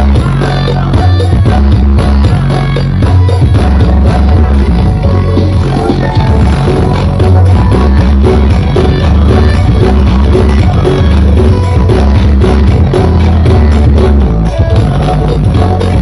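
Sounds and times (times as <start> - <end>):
loud music with heavy bass: 0.0 - 16.0.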